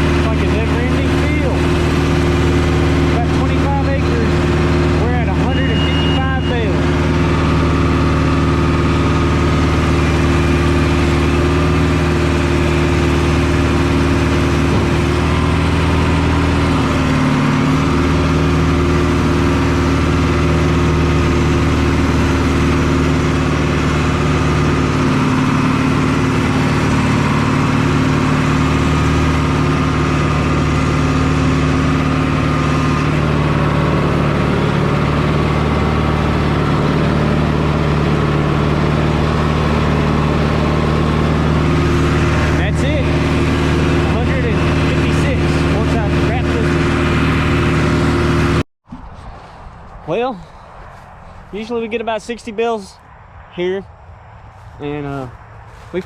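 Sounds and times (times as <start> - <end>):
tractor engine running under load: 0.0 - 53.0, 54.5 - 56.0.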